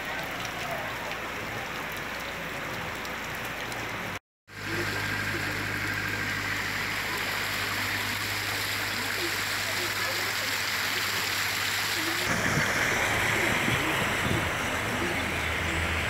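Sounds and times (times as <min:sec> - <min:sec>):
heavy rain: 0:00.0 - 0:16.0
rushing floodwater: 0:00.0 - 0:16.0
vehicles splashing through water: 0:00.0 - 0:16.0.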